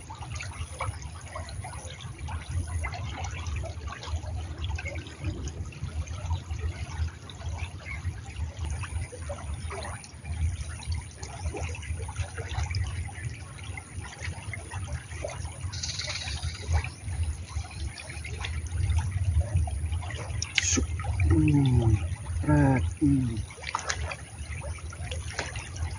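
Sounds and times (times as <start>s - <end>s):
stream trickling over stones: 0.0s - 25.9s.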